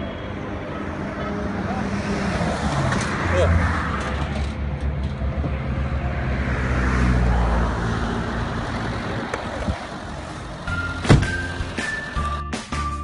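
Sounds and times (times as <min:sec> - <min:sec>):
car engine rumble: 0:00.0 - 0:12.4
road traffic noise: 0:00.0 - 0:13.0.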